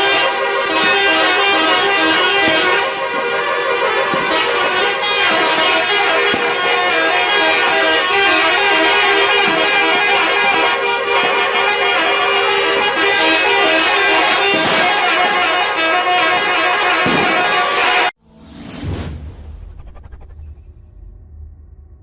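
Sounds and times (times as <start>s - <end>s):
bus air horn playing melody: 0.0s - 18.1s.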